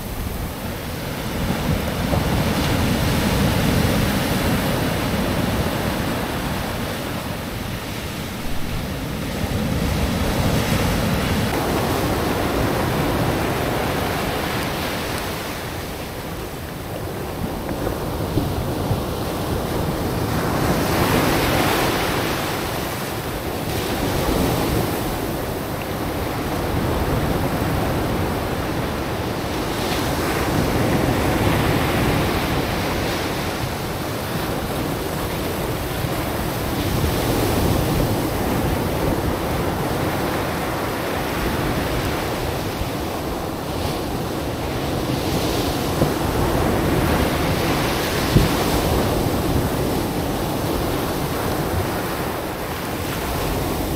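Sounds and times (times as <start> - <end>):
surf breaking on beach: 0.0 - 53.9
wind buffeting microphone: 0.0 - 53.9.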